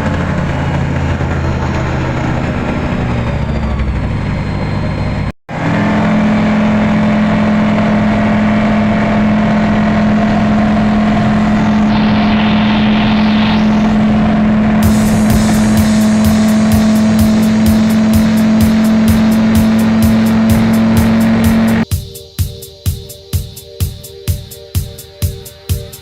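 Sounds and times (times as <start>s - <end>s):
motor running: 0.0s - 21.8s.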